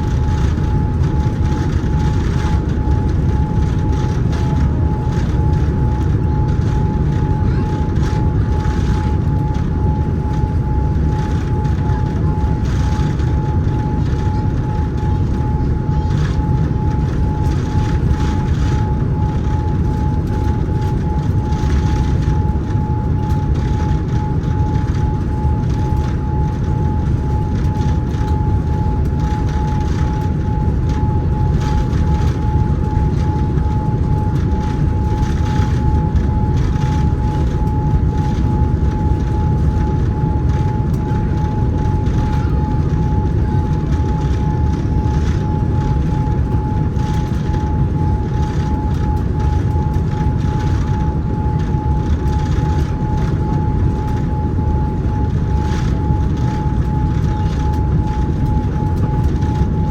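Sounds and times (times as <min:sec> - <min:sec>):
airplane cabin rumble: 0:00.0 - 0:59.9
constant high whine: 0:00.0 - 0:59.9.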